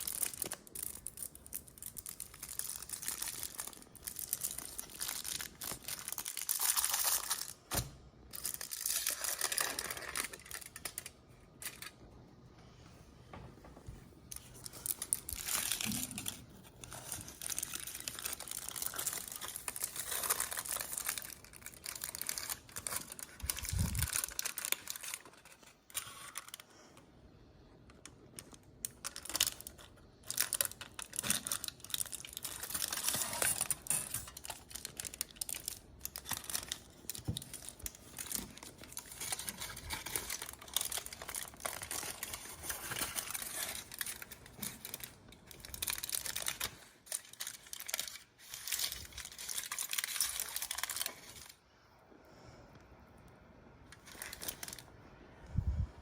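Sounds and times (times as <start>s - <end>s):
wrapper crinkling and tearing: 0.0s - 12.0s, 14.3s - 26.7s, 28.3s - 51.6s, 53.9s - 54.9s.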